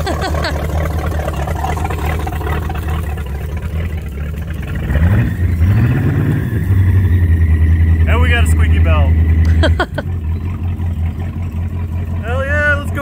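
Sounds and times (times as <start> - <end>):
boat engine idling and revving: 0.0 - 13.0.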